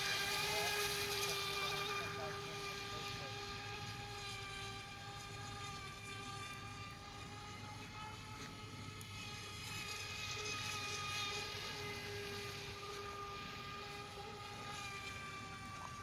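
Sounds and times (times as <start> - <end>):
model boat motor whine: 0.0 - 16.0.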